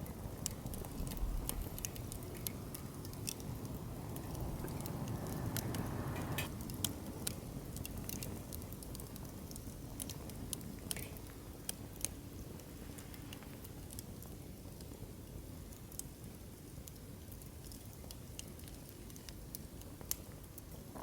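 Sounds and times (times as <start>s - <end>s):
campfire crackling and popping: 0.0s - 21.0s
low rumble of flames: 0.0s - 21.0s.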